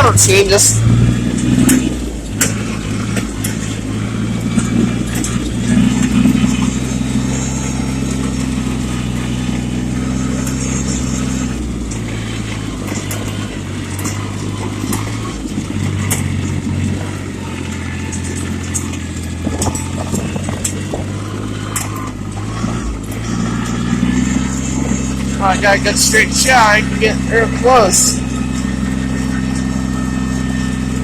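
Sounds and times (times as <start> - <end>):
diesel tractor engine running: 0.0 - 29.8.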